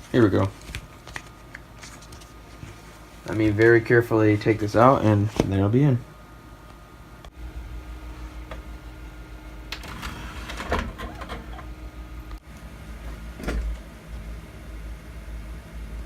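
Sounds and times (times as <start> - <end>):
computer fans humming: 0.0 - 16.0.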